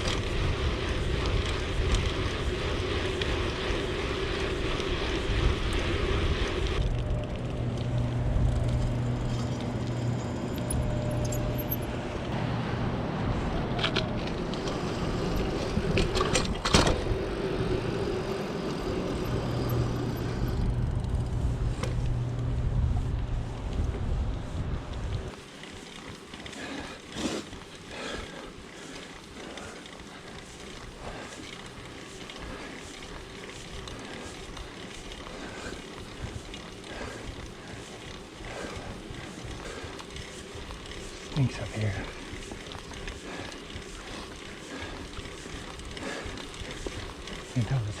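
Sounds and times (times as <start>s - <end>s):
bike tyres rolling on trail: 0.0s - 48.0s.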